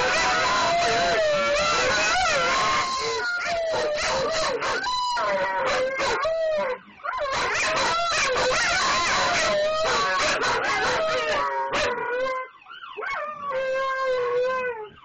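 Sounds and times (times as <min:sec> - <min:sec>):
huskies howling: 0:00.0 - 0:15.0.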